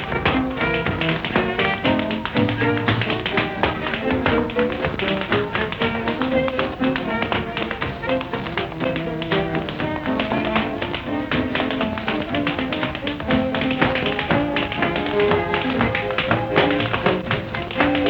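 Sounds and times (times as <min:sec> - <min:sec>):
tap-dance taps: 0:00.0 - 0:18.0.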